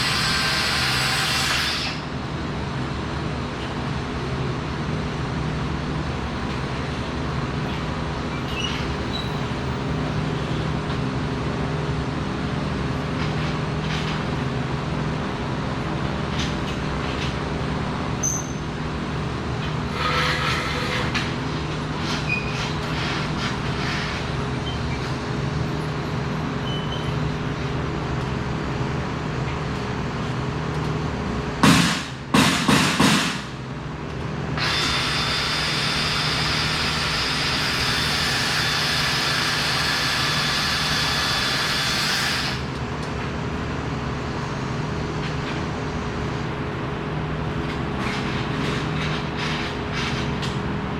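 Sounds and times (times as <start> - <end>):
workshop machinery hum: 0.0 - 50.9.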